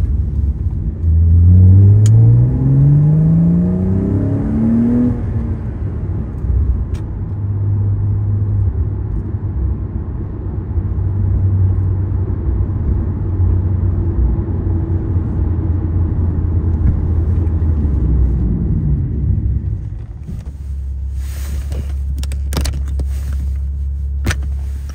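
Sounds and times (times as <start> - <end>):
car engine drone: 0.0 - 24.9
road and tyre noise: 0.0 - 24.9.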